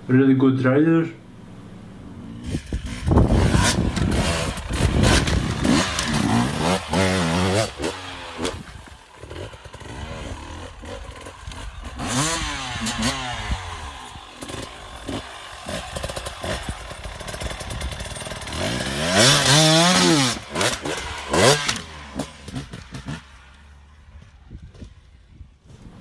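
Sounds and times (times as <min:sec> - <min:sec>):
dirt bike engine revving: 0:01.4 - 0:24.0.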